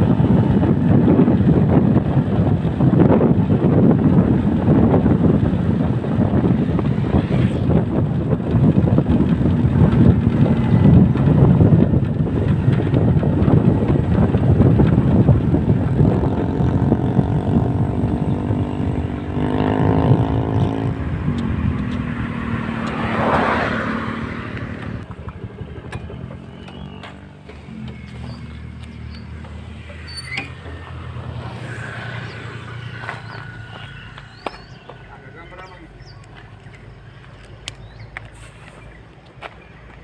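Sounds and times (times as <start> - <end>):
passing traffic rumble: 0.0 - 40.0
vehicle engine droning: 0.0 - 40.0.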